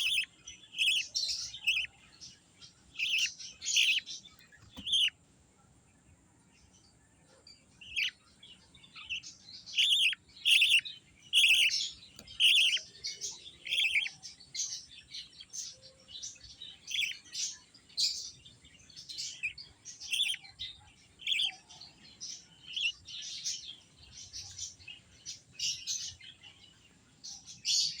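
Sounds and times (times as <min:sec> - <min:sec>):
baby bird chirping: 0:00.0 - 0:05.2, 0:07.4 - 0:28.0.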